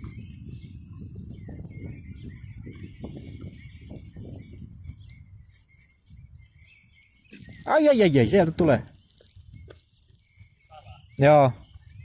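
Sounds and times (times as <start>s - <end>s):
small birds chirping: 0.0s - 12.0s
wind buffeting microphone: 0.0s - 12.0s.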